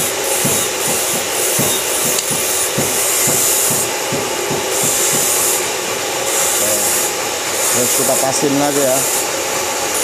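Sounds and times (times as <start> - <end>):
metal tube being cut: 0.0 - 10.0.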